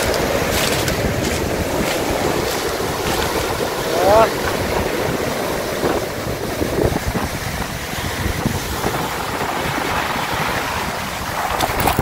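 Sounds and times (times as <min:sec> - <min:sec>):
surf breaking on pebble beach: 0:00.0 - 0:12.0
wind rumbling on microphone: 0:00.0 - 0:12.0.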